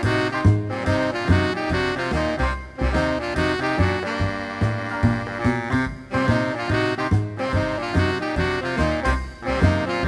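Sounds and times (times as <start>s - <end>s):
instrumental music with beat: 0.0s - 10.0s.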